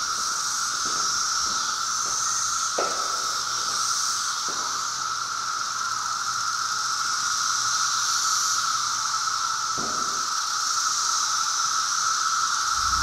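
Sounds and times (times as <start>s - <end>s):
cicada chorus buzzing: 0.0s - 13.0s.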